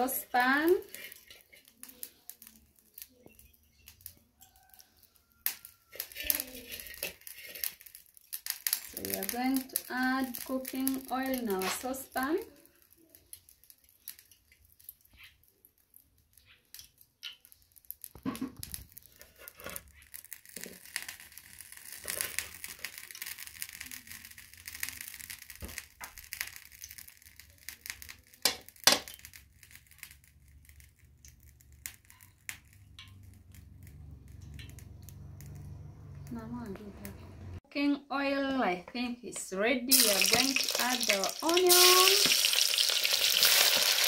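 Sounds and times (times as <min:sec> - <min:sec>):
oil crackling and hissing in pan: 0:00.0 - 0:36.3, 0:39.9 - 0:44.0.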